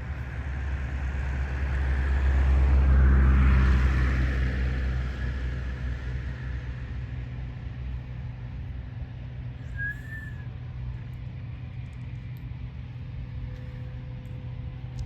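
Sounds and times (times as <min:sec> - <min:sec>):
combine harvester engine humming: 0:00.0 - 0:15.0.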